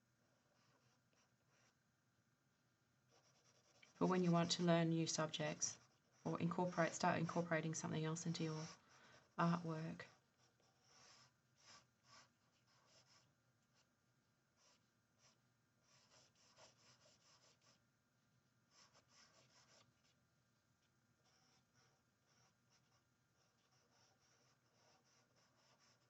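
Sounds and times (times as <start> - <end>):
charcoal pencil scratching paper: 0.5 - 1.8, 3.1 - 13.9, 14.6 - 17.8, 18.7 - 20.2, 21.2 - 26.0.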